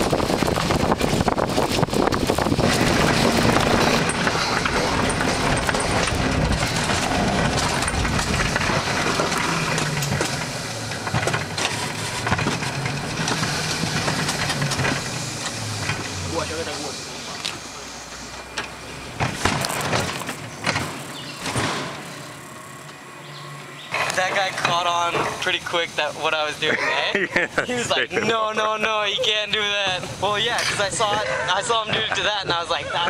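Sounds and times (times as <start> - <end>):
ride car rumbling on rail track: 0.0 - 33.0.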